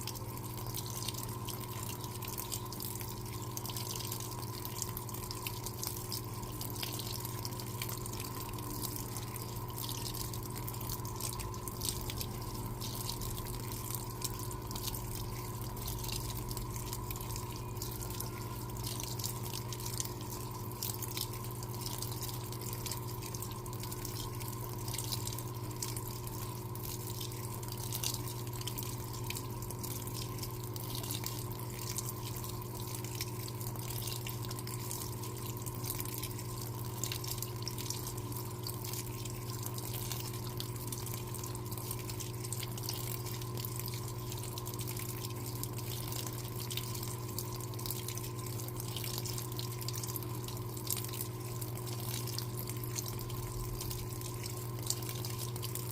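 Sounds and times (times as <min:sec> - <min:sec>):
washing machine running: 0:00.0 - 0:55.9.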